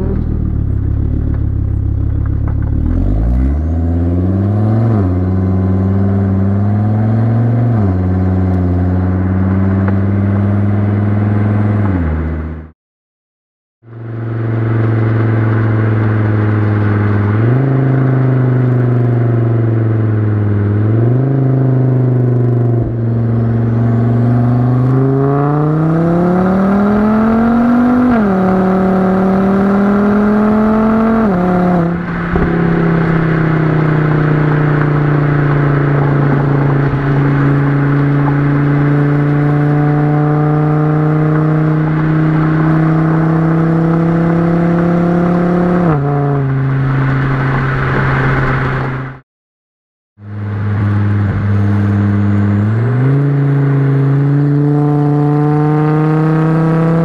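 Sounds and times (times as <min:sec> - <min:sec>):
car engine accelerating: 0:00.0 - 0:12.7, 0:13.9 - 0:49.2, 0:50.2 - 0:57.0.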